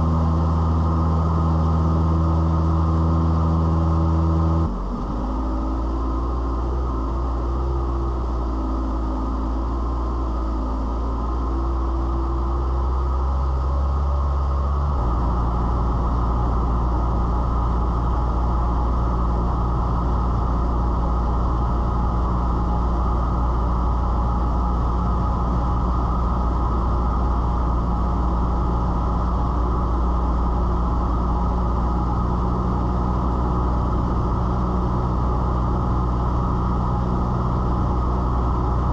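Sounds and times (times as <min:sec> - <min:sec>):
airplane engine droning: 0:00.0 - 0:38.9.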